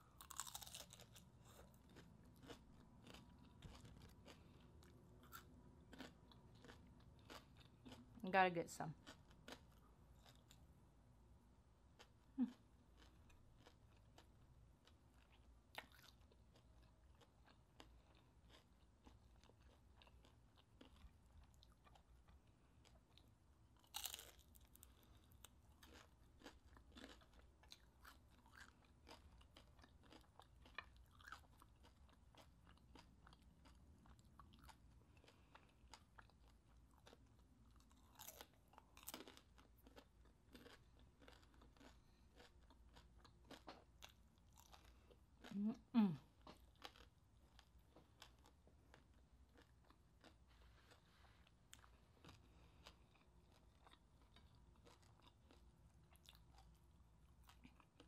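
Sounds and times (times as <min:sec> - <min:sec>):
crunching and chewing crispy food: 0:00.0 - 0:10.8, 0:11.8 - 0:58.0.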